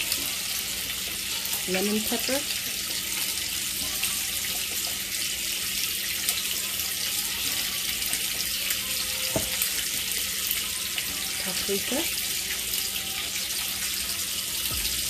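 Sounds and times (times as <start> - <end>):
boiling liquid fizzing: 0.0 - 15.0.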